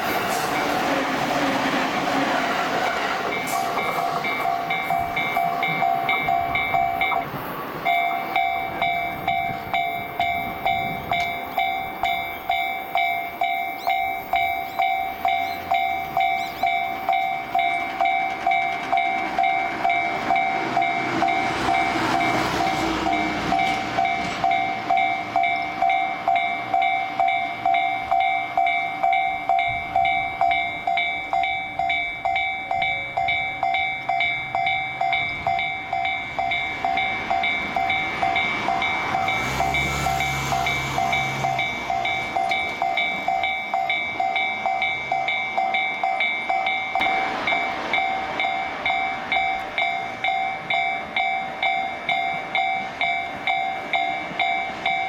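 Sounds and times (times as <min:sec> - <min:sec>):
train rumbling past: 0:00.0 - 0:55.0
train wheel clatter: 0:00.0 - 0:55.0
level crossing warning bell: 0:02.2 - 0:55.0.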